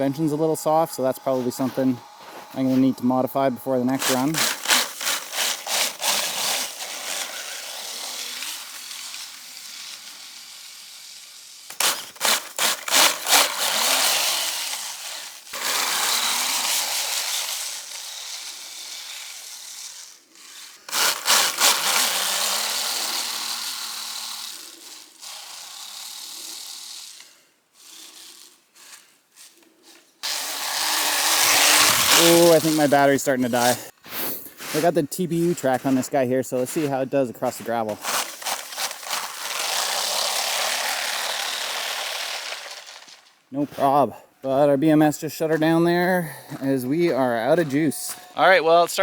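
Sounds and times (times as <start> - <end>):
toy snowmobile churning through snow: 0.0 - 44.0.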